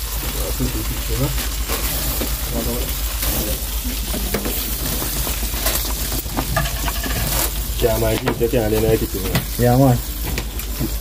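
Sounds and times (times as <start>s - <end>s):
lobster sizzling on a grill: 0.0s - 11.0s.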